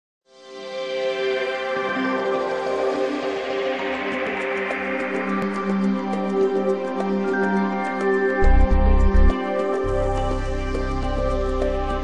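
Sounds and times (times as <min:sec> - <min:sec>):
intro music with held notes: 0:00.4 - 0:12.0.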